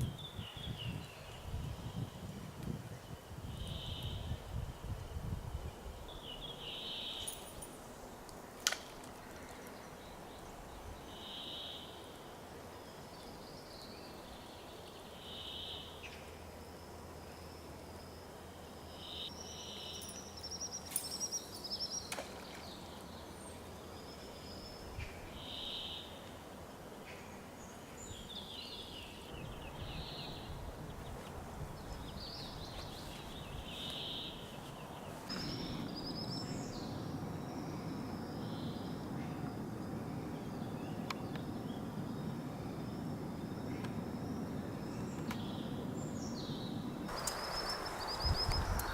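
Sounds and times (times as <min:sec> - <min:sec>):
songbirds singing: 0:00.0 - 0:07.8, 0:08.9 - 0:48.9.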